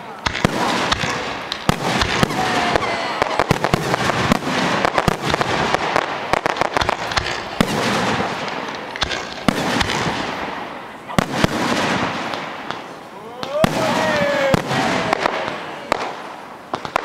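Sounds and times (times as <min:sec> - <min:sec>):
fireworks crackling: 0:00.0 - 0:17.0
fireworks launching and bursting: 0:00.0 - 0:17.0.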